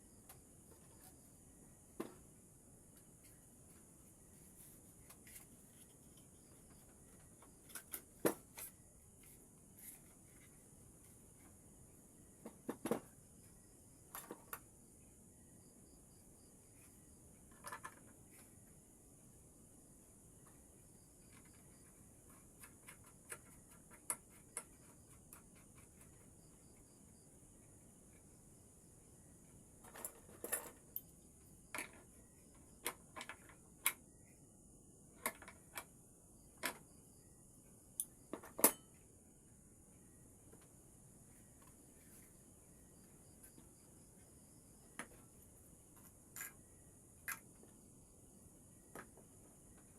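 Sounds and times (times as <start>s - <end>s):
crickets trilling: 0.0s - 49.9s
faint steady hiss: 0.0s - 49.9s.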